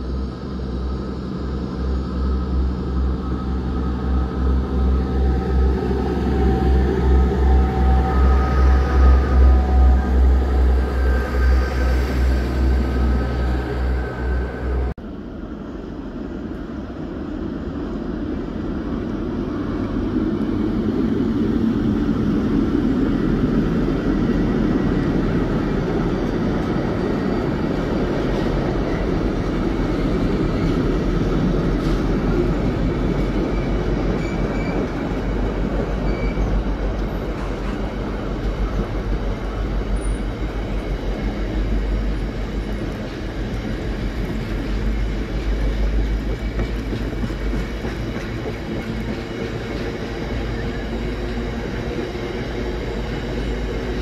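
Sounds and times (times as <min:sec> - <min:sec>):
diesel locomotive engine: 0:00.0 - 0:54.0
wheels rumbling on rails: 0:00.0 - 0:54.0.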